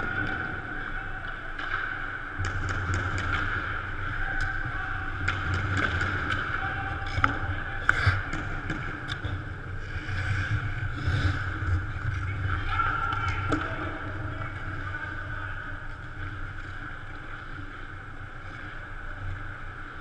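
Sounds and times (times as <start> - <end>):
hockey sticks and puck clacking: 0.0 - 20.0
hum of rink machinery: 0.0 - 20.0.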